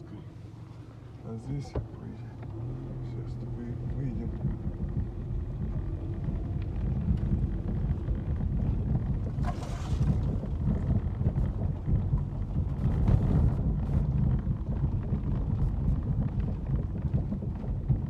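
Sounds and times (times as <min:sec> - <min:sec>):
wind buffeting microphone: 0:03.4 - 0:18.0.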